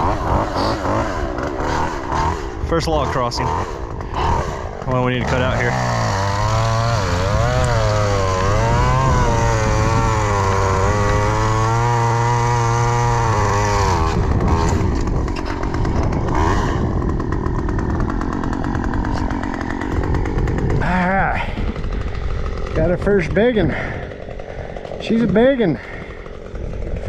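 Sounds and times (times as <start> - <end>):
chainsaw cutting log: 0.0 - 27.0
chainsaw engine running: 0.0 - 27.0.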